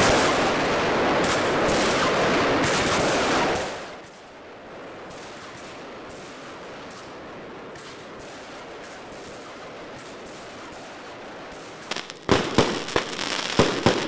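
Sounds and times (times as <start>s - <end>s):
fireworks crackling and banging: 0.0s - 4.3s, 5.1s - 14.0s.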